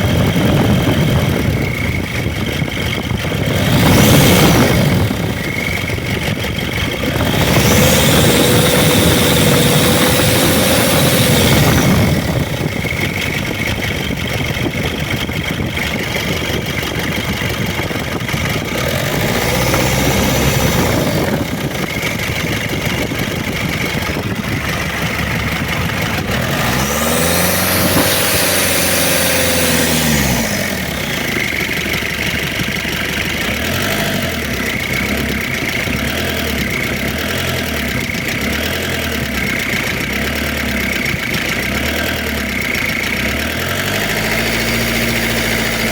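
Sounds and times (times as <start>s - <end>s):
diesel engine revving and idling: 0.0s - 45.9s.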